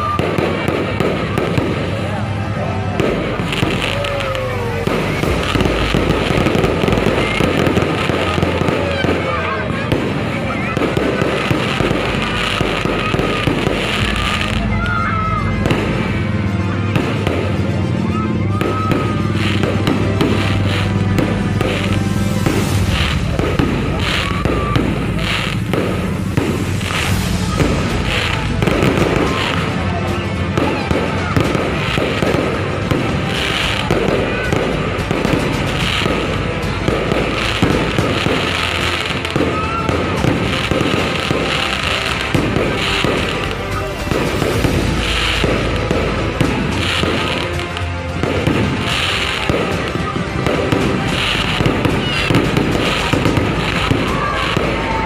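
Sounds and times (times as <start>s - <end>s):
fireworks bursting and crackling: 0.0s - 55.0s
music: 0.0s - 55.0s.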